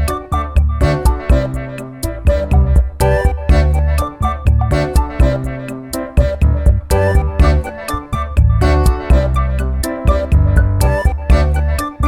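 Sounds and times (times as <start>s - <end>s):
upbeat synthesizer music: 0.0s - 12.0s.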